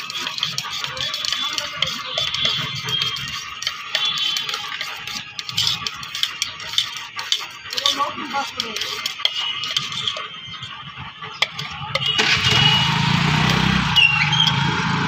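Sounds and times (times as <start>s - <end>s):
spoon scraping in metal tumbler: 0.0s - 14.8s.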